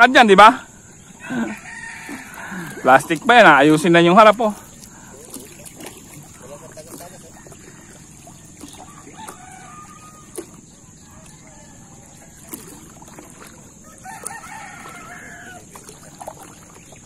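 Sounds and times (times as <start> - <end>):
crowing calls: 0.6 - 3.9, 4.5 - 17.0.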